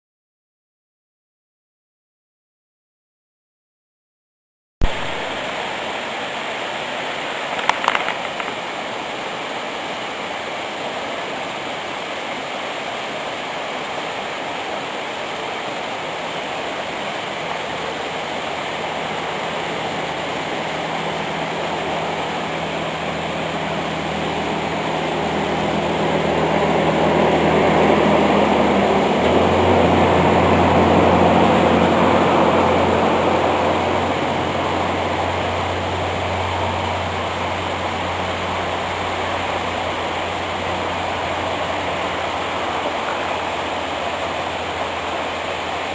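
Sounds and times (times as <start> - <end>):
low engine drone: 4.8 - 45.9
waterfall rushing: 4.8 - 45.9.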